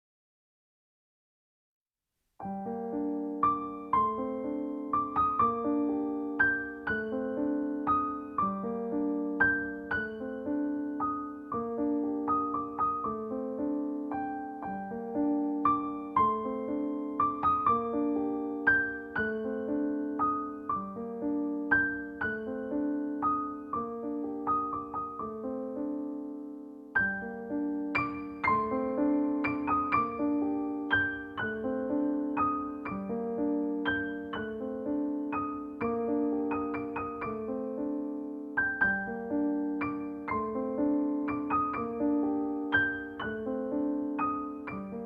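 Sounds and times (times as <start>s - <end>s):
gentle solo piano: 2.4s - 45.0s.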